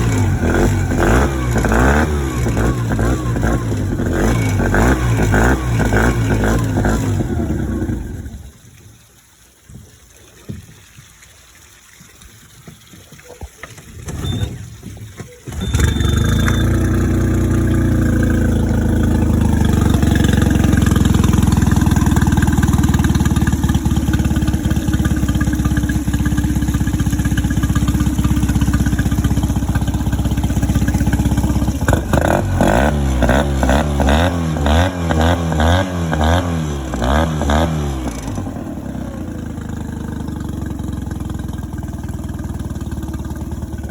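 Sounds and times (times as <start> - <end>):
outboard motor running: 0.0 - 8.8, 13.0 - 43.9.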